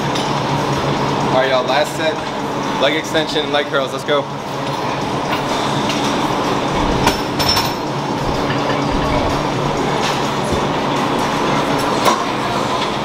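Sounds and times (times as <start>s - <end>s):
exercise machine rumble: 0.0s - 13.0s.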